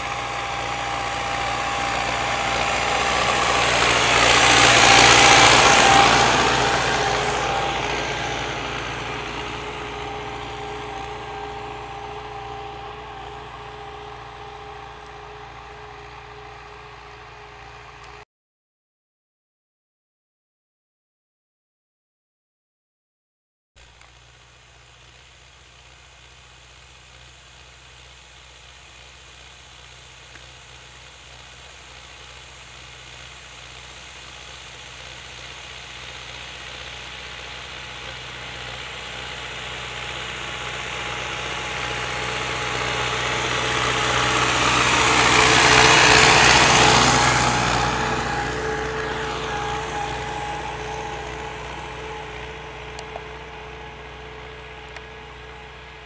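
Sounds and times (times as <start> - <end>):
tractor diesel engine passing: 0.0 - 18.2, 23.8 - 56.0.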